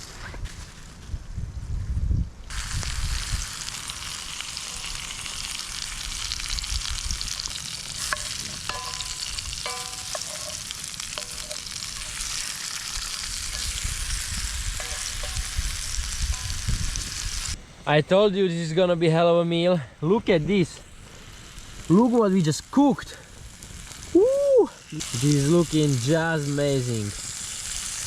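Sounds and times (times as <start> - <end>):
meat sizzling in a pan: 2.5 - 17.6, 20.5 - 28.0.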